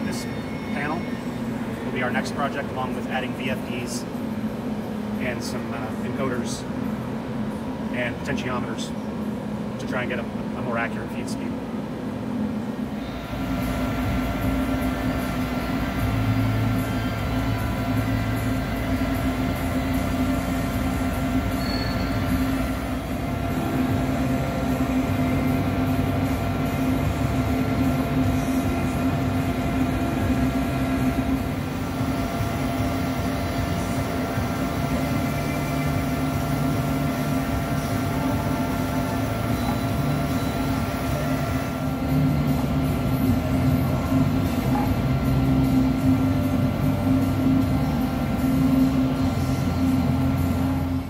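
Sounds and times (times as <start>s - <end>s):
boring mill motor hum: 0.0s - 51.0s
constant whining tones: 0.0s - 51.0s.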